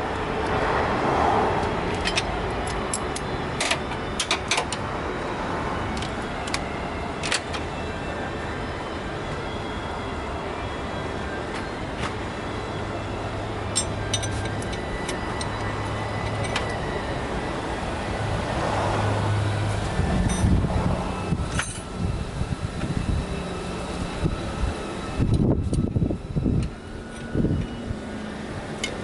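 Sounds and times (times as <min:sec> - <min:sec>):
traffic rumble: 0:00.0 - 0:29.0.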